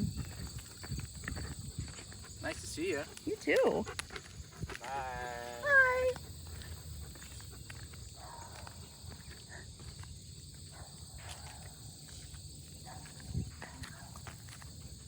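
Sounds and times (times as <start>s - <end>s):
soft footsteps and scuffs: 0.1s - 15.0s.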